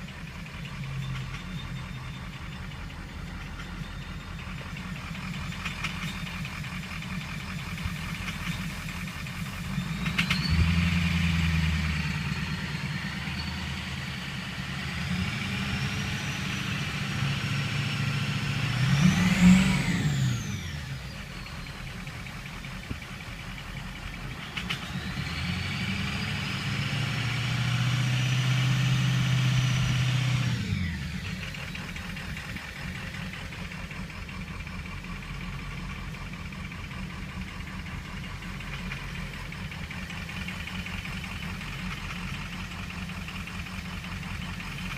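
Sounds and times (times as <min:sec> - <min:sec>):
diesel engine knocking and revving: 0:00.0 - 0:44.9.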